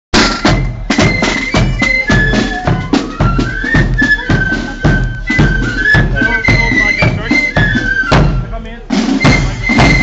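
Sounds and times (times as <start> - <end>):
side drums marching beat: 0.1 - 10.0
flutes playing melody: 0.2 - 10.0.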